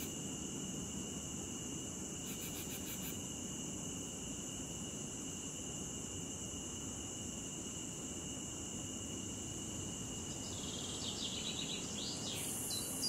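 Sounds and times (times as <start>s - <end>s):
crickets trilling: 0.0s - 13.0s
low background hiss: 0.0s - 13.0s.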